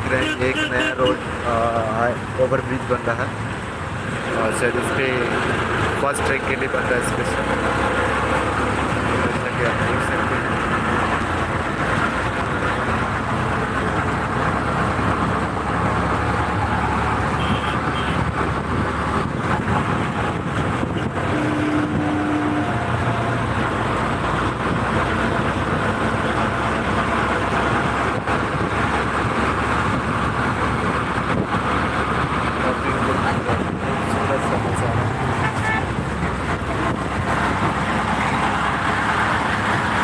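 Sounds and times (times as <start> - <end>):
vehicle road noise: 0.0 - 40.0.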